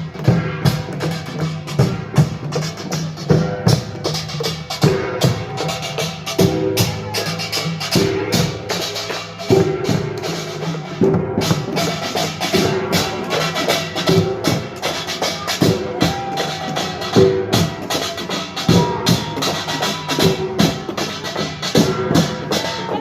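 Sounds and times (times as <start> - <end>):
drums beating fast rhythm: 0.0 - 23.0.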